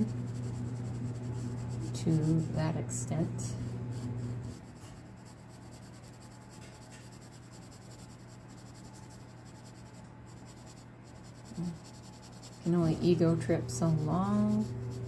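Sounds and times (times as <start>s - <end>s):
pencil scratching on paper: 0.0s - 2.8s, 3.6s - 15.0s
faint low hum: 0.0s - 15.0s.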